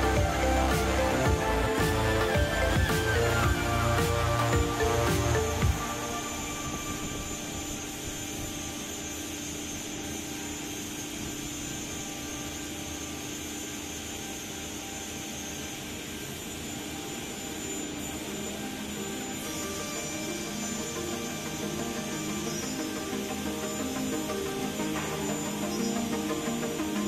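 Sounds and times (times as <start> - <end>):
router machine rushing noise: 0.0 - 27.0.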